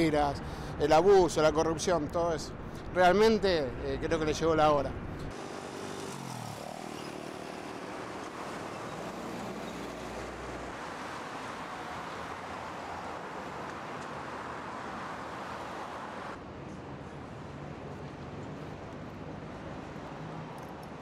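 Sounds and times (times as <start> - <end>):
city traffic noise: 0.0 - 21.0.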